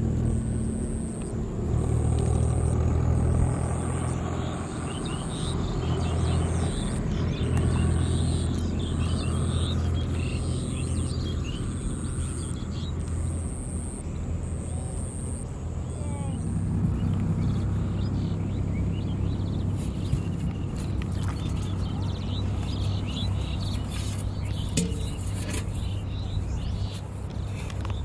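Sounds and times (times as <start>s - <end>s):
small birds chirping: 0.2s - 28.0s.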